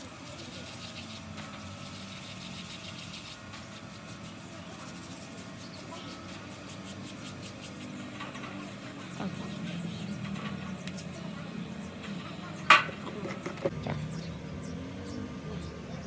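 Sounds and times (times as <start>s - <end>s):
machine motor running: 0.0s - 13.7s.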